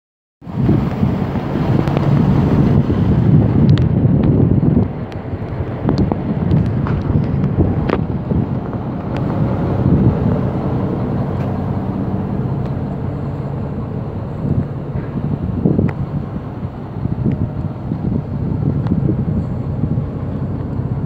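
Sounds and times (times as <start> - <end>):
wind buffeting microphone: 0.4 - 21.0
truck engine idling: 0.6 - 21.0.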